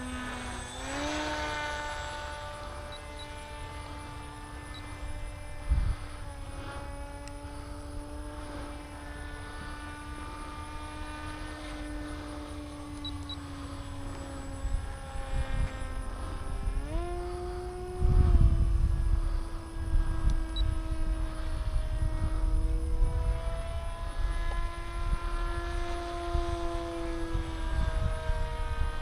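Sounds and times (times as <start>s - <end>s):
electric motor and propeller whine: 0.0s - 29.0s
wind noise rumble: 0.0s - 29.0s.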